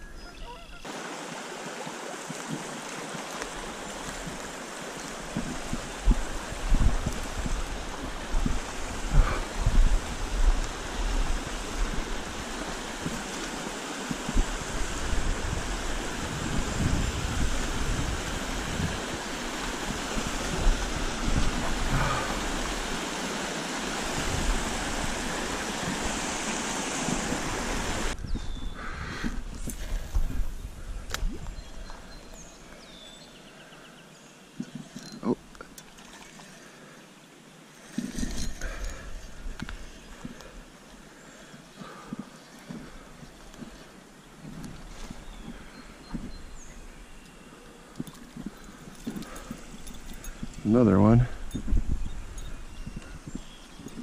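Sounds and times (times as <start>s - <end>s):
stream water rushing: 0.8s - 28.2s, 29.4s - 54.0s.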